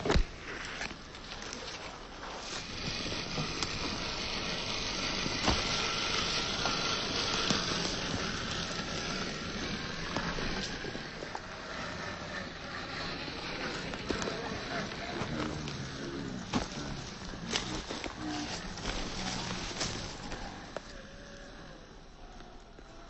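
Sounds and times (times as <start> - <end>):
tyres scrabbling on rock: 0.0 - 21.1
rc car motor whir: 0.5 - 23.0.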